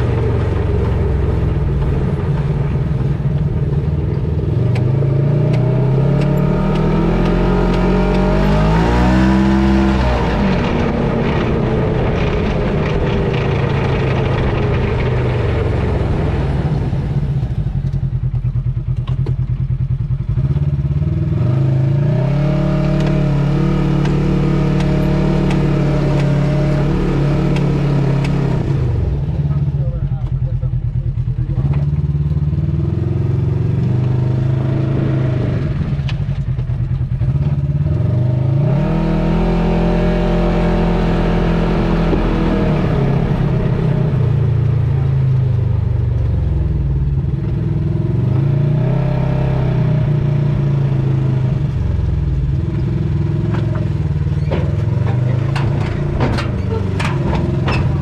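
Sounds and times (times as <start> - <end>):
drivetrain rapid rattle: 0.0 - 33.1, 33.8 - 58.0
vehicle engine revving: 0.0 - 58.0.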